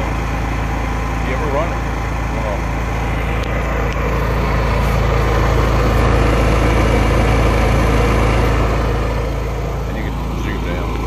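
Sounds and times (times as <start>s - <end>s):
generator engine hum: 0.0s - 11.0s.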